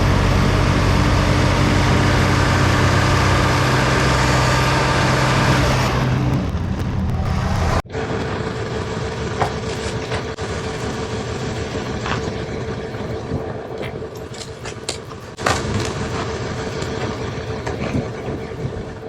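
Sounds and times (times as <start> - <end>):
steady whine: 0.0 - 19.0
tractor running: 0.0 - 19.0.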